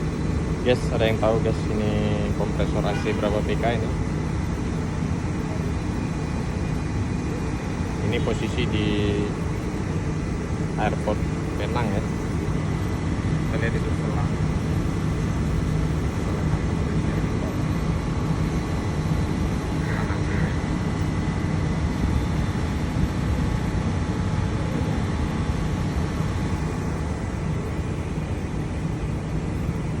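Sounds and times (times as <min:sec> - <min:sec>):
air conditioning compressor hum: 0:00.0 - 0:30.0.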